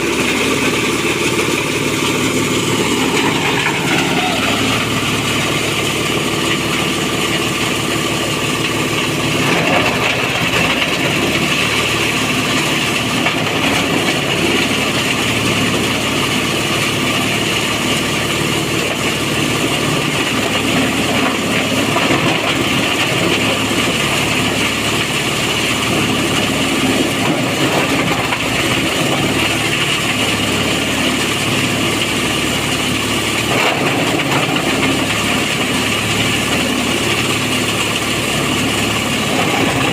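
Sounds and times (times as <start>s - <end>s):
grinder machine running: 0.0s - 39.9s.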